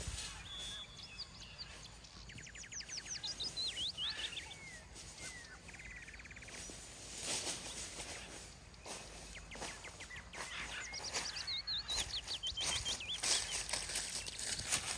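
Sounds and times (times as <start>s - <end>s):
small bird trilling and chirping: 0.0s - 14.9s
wind through forest: 0.0s - 14.9s.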